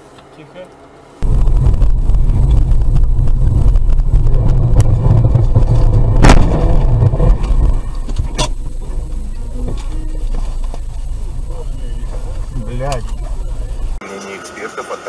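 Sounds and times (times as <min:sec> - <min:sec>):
car rumbling: 0:01.2 - 0:14.0.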